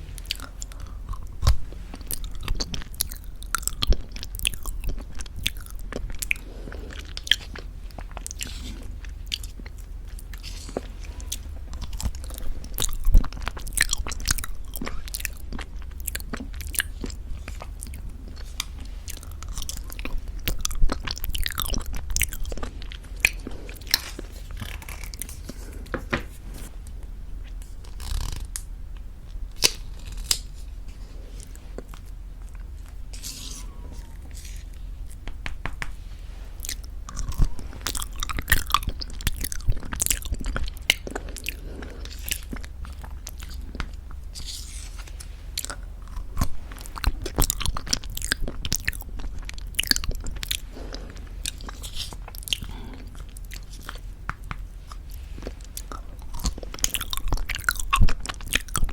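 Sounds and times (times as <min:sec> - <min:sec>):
sticky chewing and smacking: 0:00.0 - 0:58.9.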